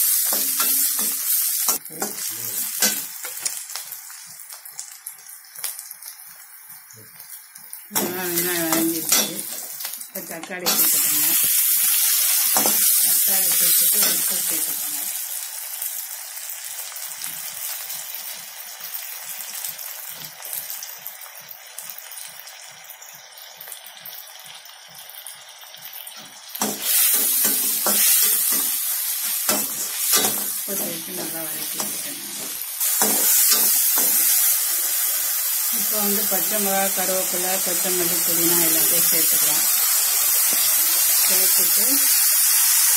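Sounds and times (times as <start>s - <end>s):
vegetables sizzling in oil: 0.0s - 42.9s.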